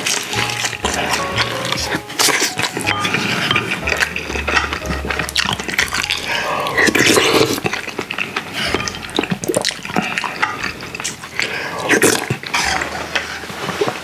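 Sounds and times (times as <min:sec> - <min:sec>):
wet mouth clicks: 0:00.0 - 0:13.9
slurping and chewing: 0:00.0 - 0:14.0.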